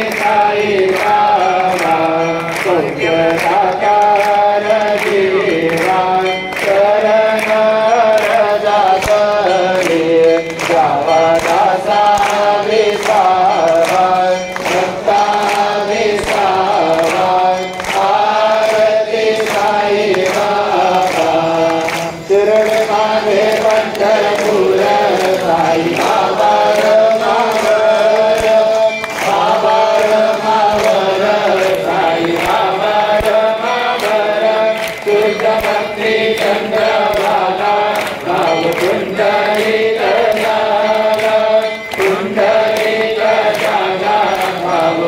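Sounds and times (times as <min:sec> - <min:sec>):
group chanting: 0:00.0 - 0:45.0
instrumental accompaniment: 0:00.0 - 0:45.0.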